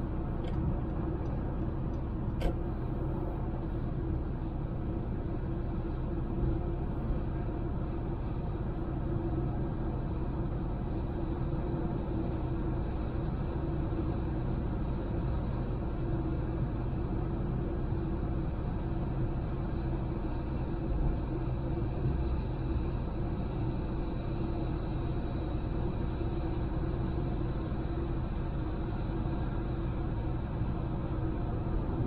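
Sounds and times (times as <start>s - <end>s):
car engine rumble: 0.0s - 32.0s.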